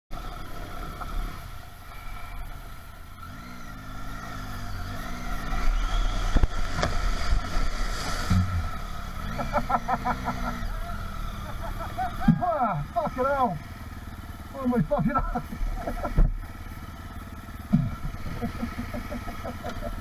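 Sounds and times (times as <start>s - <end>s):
motorcycle engine revving: 0.1s - 20.0s.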